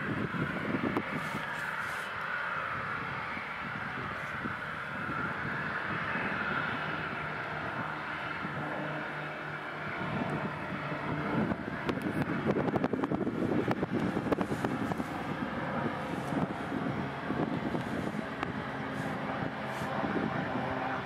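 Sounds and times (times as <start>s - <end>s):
jet engines whining hiss: 0.0s - 21.0s
wind buffeting microphone: 0.0s - 21.0s.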